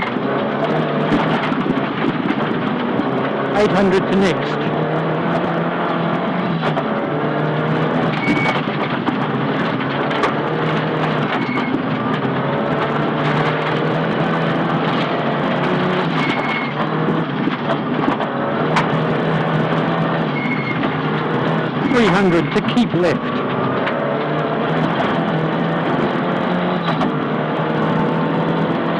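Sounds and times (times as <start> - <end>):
rally car engine running hard: 0.0 - 28.9.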